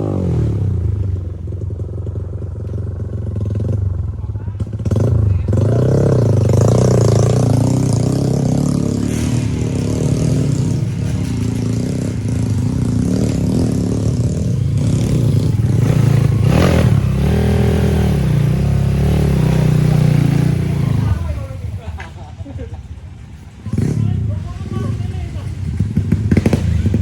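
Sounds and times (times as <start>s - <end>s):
motorcycle engine revving: 0.0s - 22.2s, 23.5s - 27.0s.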